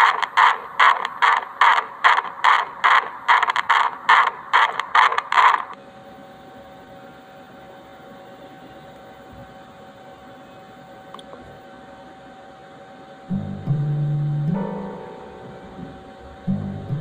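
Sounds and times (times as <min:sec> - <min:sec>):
faint steady hiss with hum: 0:00.0 - 0:17.0.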